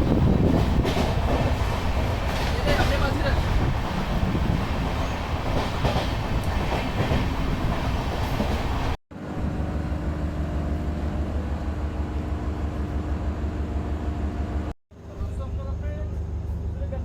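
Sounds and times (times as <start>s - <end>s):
train rumble and wheel clatter: 0.0s - 17.0s.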